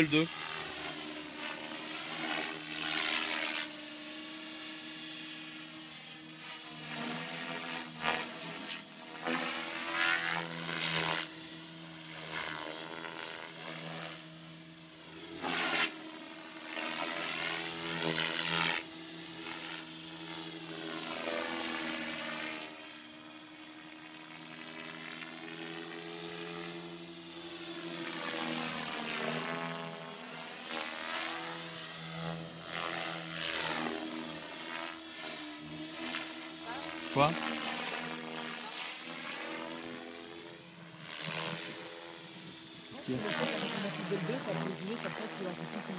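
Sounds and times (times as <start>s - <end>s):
rc helicopter motor and rotor whine: 0.0s - 45.9s
thin high whine: 0.0s - 45.9s.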